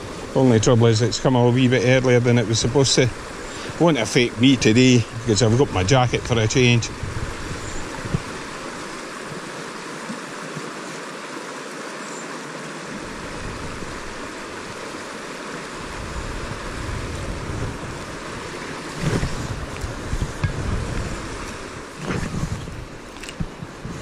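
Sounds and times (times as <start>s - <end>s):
rain falling on river: 0.0s - 22.1s
shallow river water rushing: 0.0s - 24.0s.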